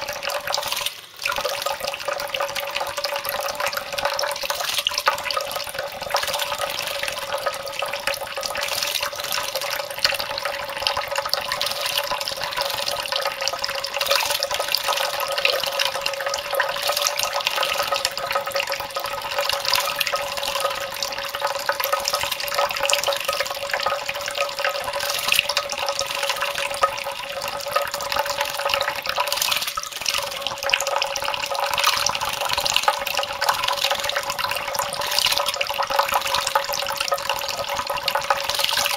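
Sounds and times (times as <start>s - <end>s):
tap water running into bowl: 0.0s - 38.9s.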